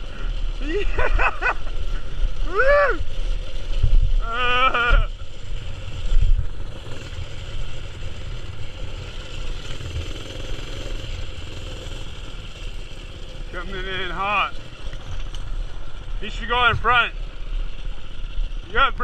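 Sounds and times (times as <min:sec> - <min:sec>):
mini-bike rolling on dirt trail: 0:00.0 - 0:19.0
wind rumble: 0:00.0 - 0:19.0.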